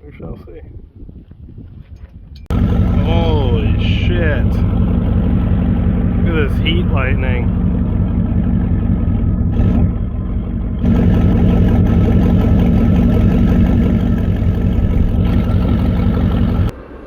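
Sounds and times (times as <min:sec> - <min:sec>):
vehicle engine idling: 0:02.5 - 0:16.7.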